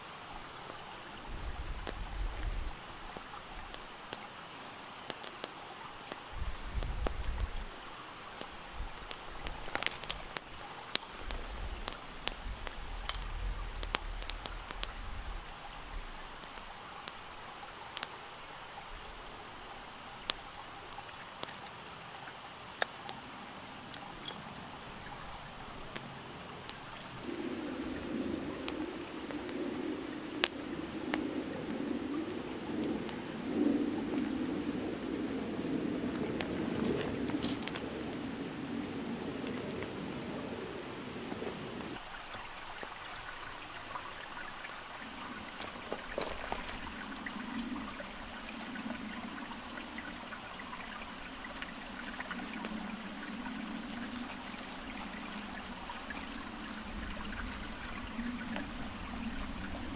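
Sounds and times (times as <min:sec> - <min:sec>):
campfire crackling: 0:00.0 - 0:59.9
soft outdoor background: 0:00.0 - 0:59.9.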